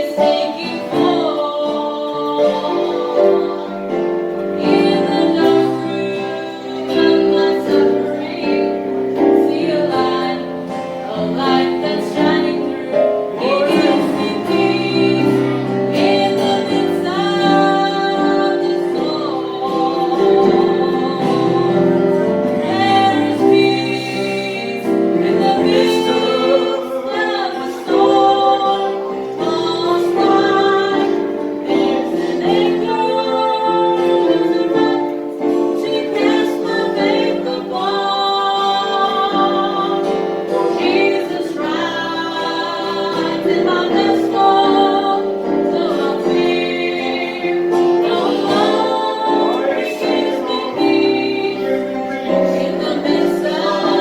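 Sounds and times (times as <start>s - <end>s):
instrumental accompaniment: 0.0s - 54.0s
woman singing gospel song: 0.0s - 54.0s.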